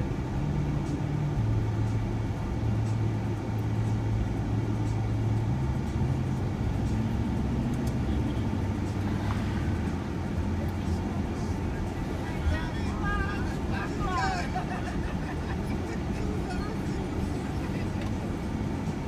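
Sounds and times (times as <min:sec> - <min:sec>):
van engine and road noise: 0:00.0 - 0:19.0.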